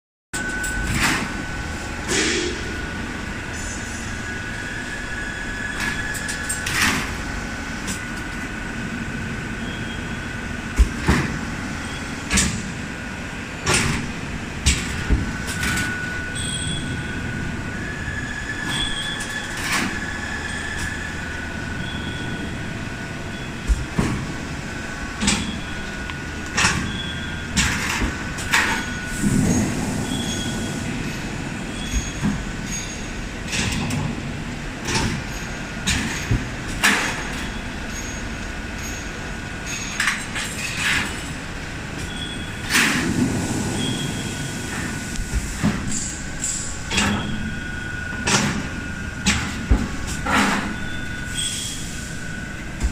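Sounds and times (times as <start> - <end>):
machine hum with high whine: 0.4 - 52.9.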